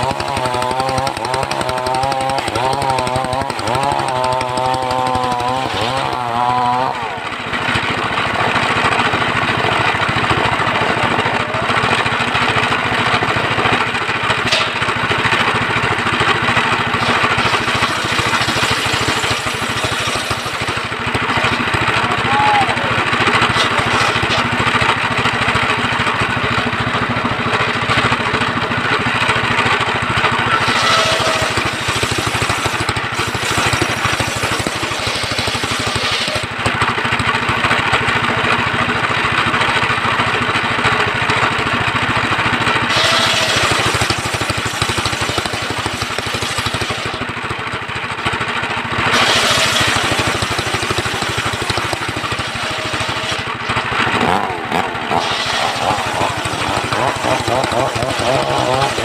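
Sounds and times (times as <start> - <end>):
saw blade cutting wood: 0.0 - 9.2, 10.0 - 22.3, 23.0 - 26.4, 27.6 - 37.0, 42.8 - 47.7, 49.0 - 59.0
sawmill engine running: 0.0 - 59.0.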